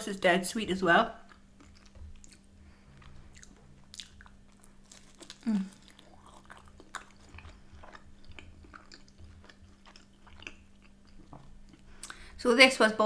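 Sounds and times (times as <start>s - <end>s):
person chewing food: 1.2s - 12.4s.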